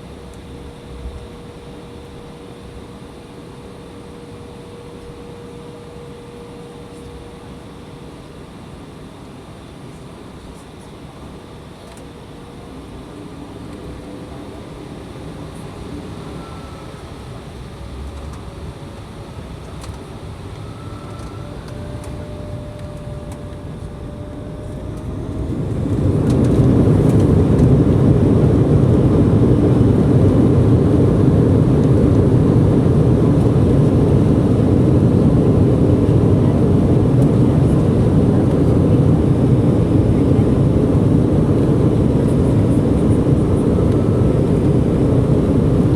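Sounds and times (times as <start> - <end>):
jet engines heard in cabin: 0.0 - 45.9.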